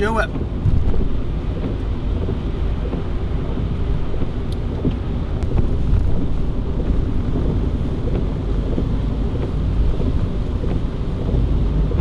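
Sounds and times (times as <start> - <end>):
car tyres on wet road: 0.0 - 12.0.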